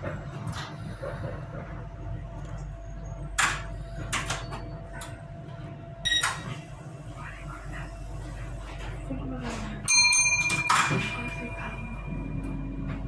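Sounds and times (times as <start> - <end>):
faint hum: 0.0 - 13.0
train wheels and motors rumbling: 0.0 - 13.0.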